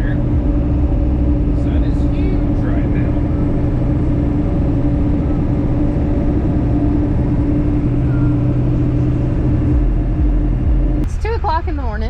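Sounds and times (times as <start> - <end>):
truck engine hum: 0.0 - 12.0
tyre and road noise: 0.0 - 12.0.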